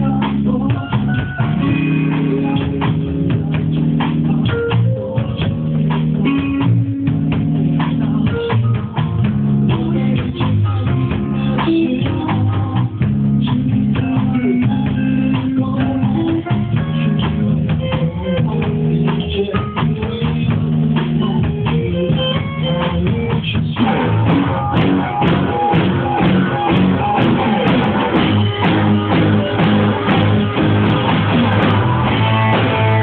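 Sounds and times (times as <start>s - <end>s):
drum kit steady beat: 0.0s - 33.0s
electric guitars playing heavy chords: 0.0s - 33.0s.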